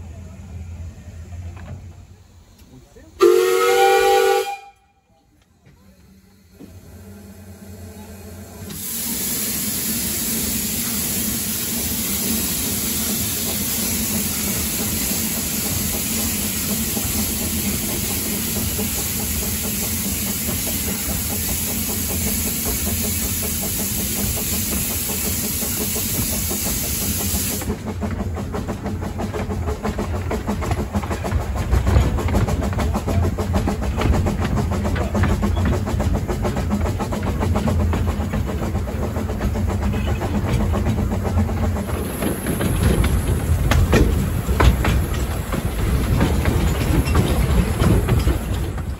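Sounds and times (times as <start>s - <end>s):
steam hissing: 5.7s - 48.9s
steam locomotive rhythmic beat: 8.7s - 48.9s.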